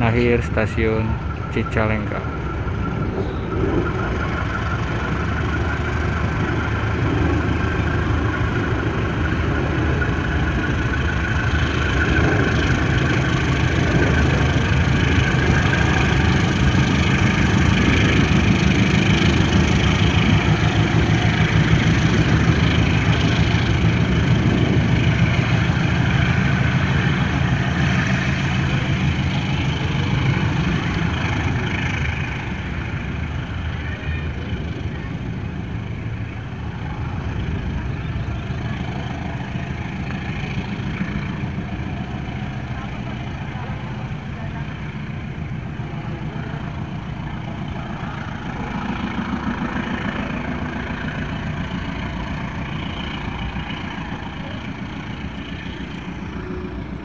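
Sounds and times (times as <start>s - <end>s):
diesel engine drone: 0.0s - 57.0s
wheels clattering on track: 0.0s - 57.0s.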